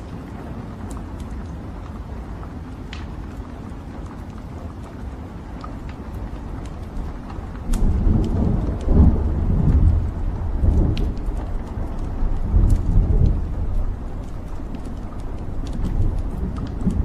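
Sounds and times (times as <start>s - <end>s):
crackles and pops of burning logs: 0.0s - 17.0s
rumble of flames: 0.0s - 17.0s.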